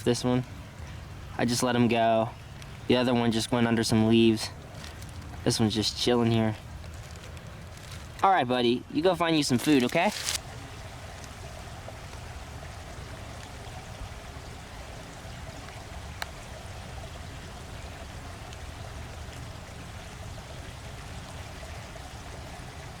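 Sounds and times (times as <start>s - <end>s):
creek water running: 0.0s - 23.0s.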